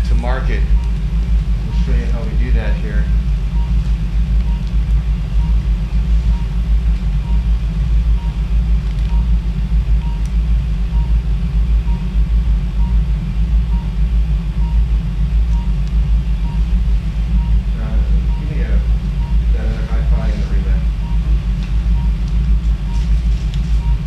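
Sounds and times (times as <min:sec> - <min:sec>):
equipment low rumble: 0:00.0 - 0:24.0.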